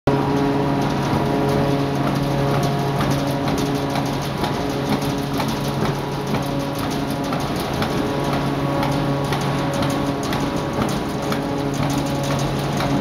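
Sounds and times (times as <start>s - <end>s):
machine hum: 0.1s - 13.0s
clatter of light ticks: 0.3s - 13.0s.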